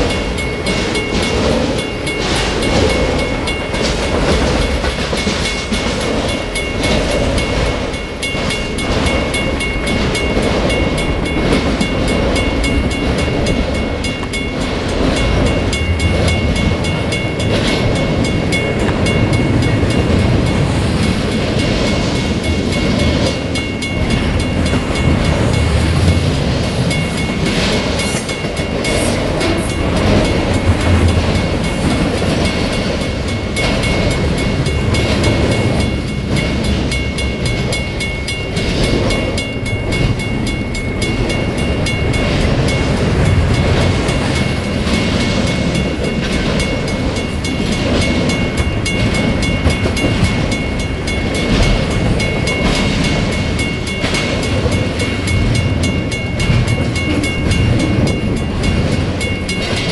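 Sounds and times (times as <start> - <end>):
steel wheels rumbling on rail: 0.0 - 59.9
wheels clicking over rail joints: 0.0 - 59.9.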